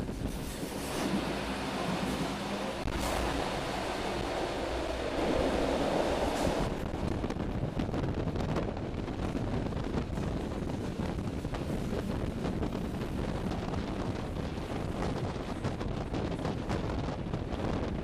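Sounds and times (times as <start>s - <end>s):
train rumbling on track: 0.0s - 18.0s
wind buffeting microphone: 0.0s - 18.0s.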